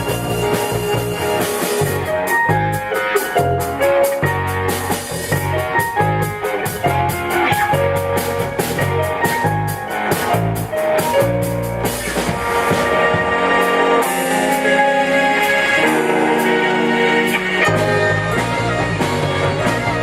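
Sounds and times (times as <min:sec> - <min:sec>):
live rock band: 0:00.0 - 0:20.0.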